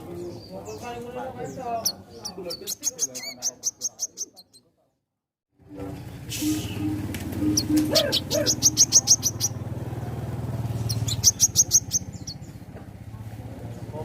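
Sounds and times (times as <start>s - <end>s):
songbird chirping: 0.0s - 4.9s, 5.6s - 14.0s.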